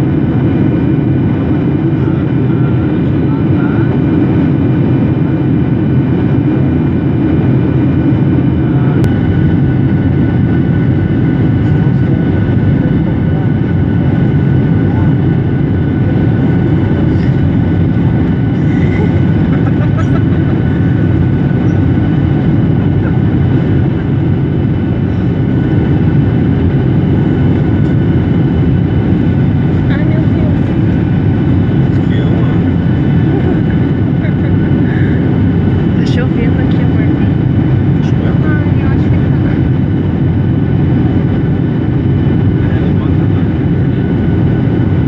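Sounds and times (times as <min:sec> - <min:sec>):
jet engine and airflow rush: 0:00.0 - 0:45.0.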